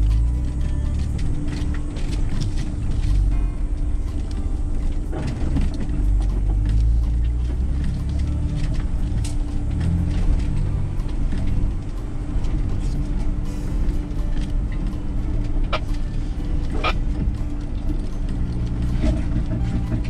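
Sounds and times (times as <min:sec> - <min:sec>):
low engine rumble: 0:00.0 - 0:20.0
tyres and body rattling over rocks: 0:00.0 - 0:20.0.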